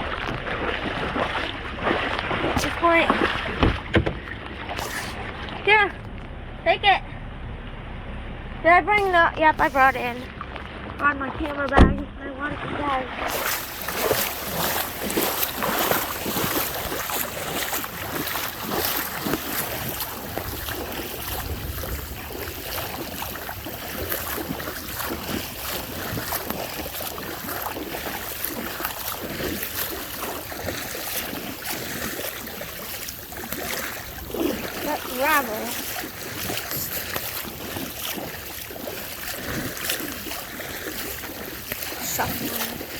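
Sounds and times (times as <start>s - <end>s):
taps and splashes: 0.0s - 6.4s, 8.9s - 42.9s
rain and floodwater: 0.0s - 7.3s, 8.0s - 42.9s
wind buffeting microphone: 0.0s - 42.9s.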